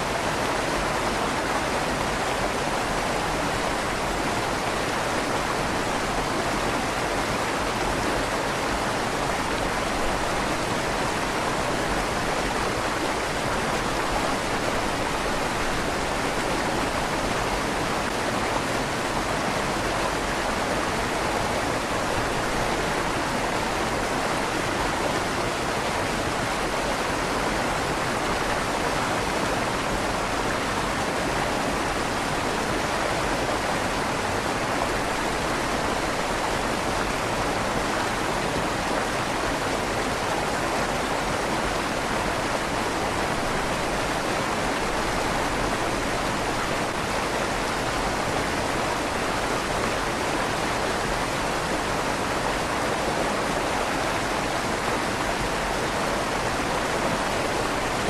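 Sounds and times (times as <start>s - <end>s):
river water rushing with echo: 0.0s - 58.0s.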